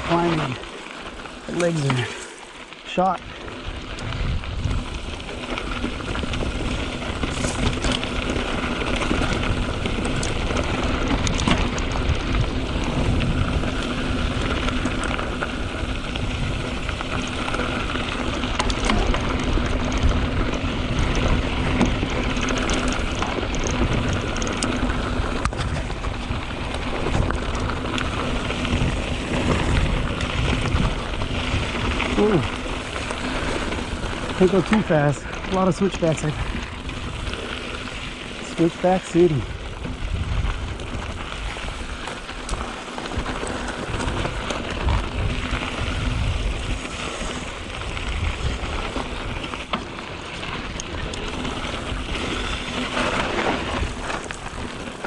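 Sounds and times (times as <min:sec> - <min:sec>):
bike rattling over rough ground: 0:00.0 - 0:55.0
bike tyres crunching on loose dirt: 0:00.0 - 0:55.0
steady rushing noise: 0:00.0 - 0:55.0.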